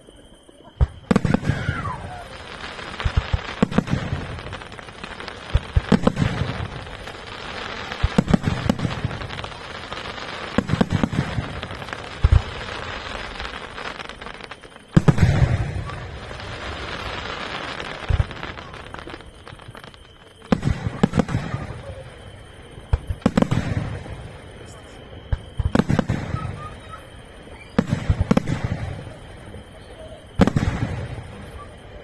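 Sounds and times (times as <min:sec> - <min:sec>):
fireworks crackling: 0:00.0 - 0:32.0
firework shells bursting: 0:00.8 - 0:31.8.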